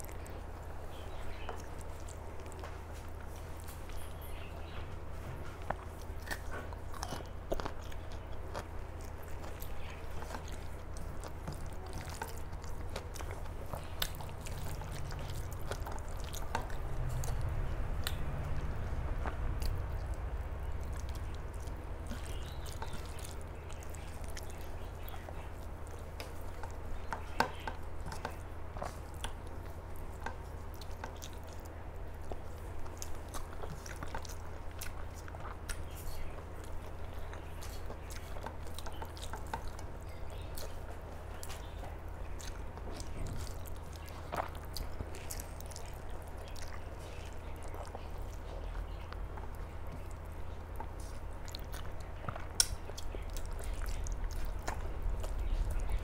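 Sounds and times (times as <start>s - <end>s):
low hum: 0.0s - 37.4s, 41.1s - 56.0s
person chewing food: 0.0s - 56.0s.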